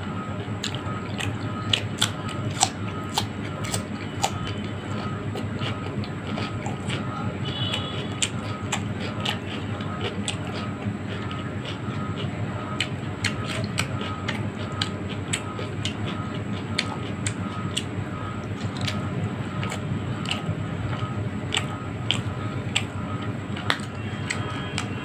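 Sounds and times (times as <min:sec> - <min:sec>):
person chewing with wet mouth clicks: 0:00.0 - 0:25.0.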